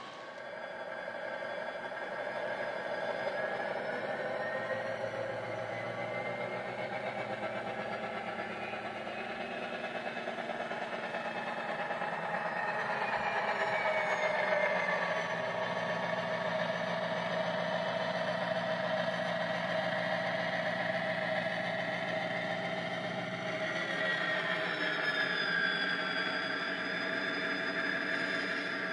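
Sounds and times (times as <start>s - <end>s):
diesel engine sound from small speaker: 0.0s - 28.9s.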